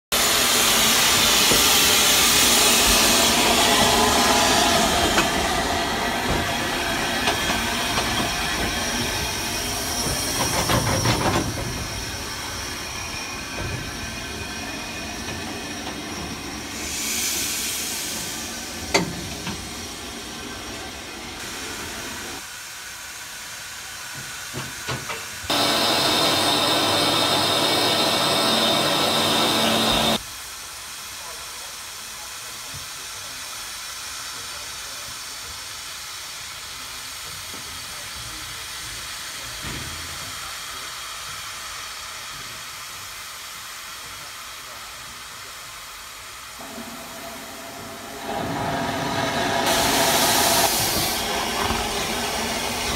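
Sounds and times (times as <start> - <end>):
steam hissing: 0.1 - 52.9.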